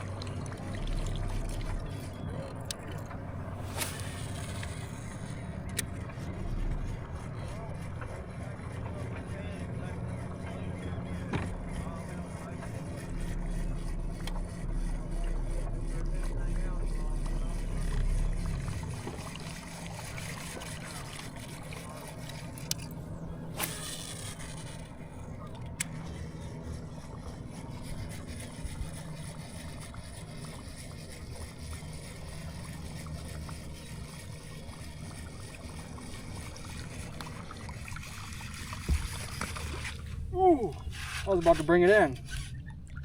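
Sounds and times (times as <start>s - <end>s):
boat engine low hum: 0.0s - 43.0s
water sloshing against hull: 0.0s - 43.0s.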